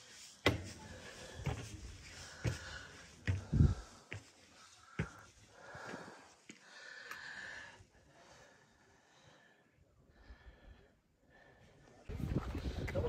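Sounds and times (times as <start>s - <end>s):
person breathing hard: 0.8s - 11.7s.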